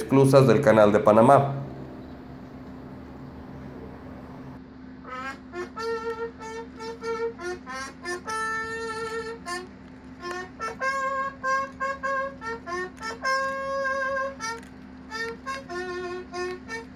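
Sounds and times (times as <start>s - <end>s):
bugle playing: 0.4s - 16.9s.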